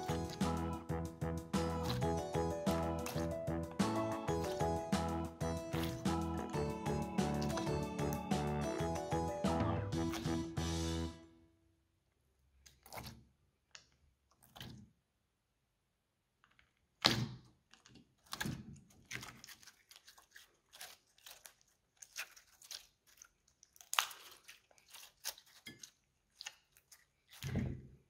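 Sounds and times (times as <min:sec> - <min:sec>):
slime squelching and popping: 0:00.0 - 0:10.6, 0:12.5 - 0:15.0, 0:16.6 - 0:28.0.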